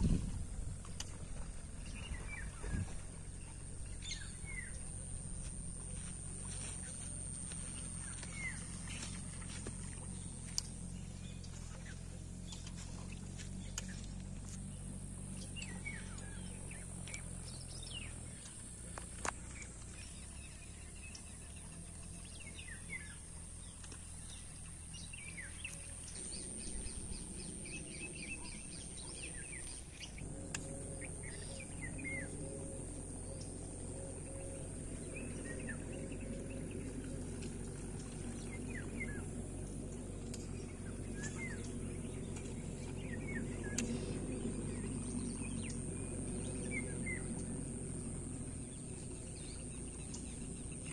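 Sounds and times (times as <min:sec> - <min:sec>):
low outdoor background hum: 0:00.0 - 0:50.9
small birds chirping: 0:00.0 - 0:50.9.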